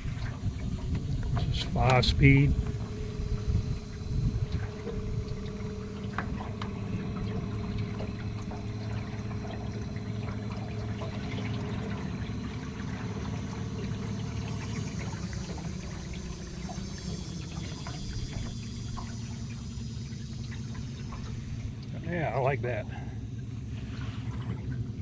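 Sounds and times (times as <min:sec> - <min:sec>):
electric motor humming: 0:00.0 - 0:24.9
water gurgling along hull: 0:00.0 - 0:25.0.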